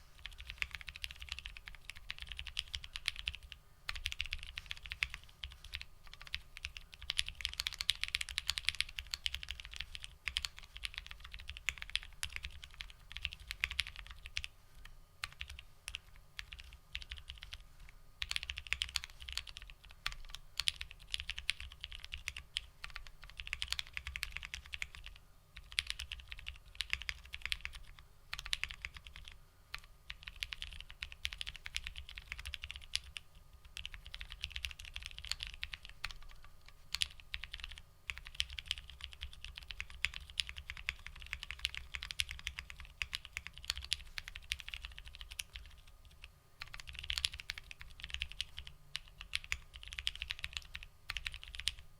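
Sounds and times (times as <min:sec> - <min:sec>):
typing on mechanical keyboard: 0:00.2 - 0:17.6, 0:18.2 - 0:51.8.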